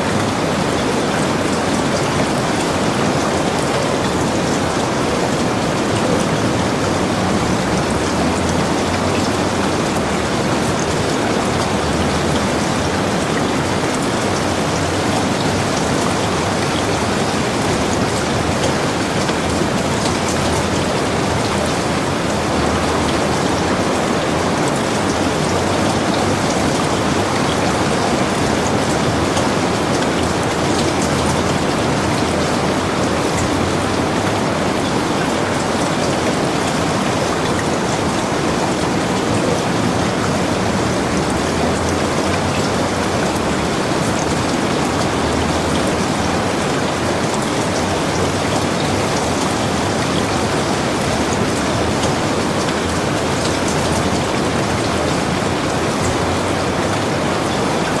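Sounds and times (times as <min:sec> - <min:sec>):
heavy rain on a cabin roof: 0:00.0 - 0:58.0.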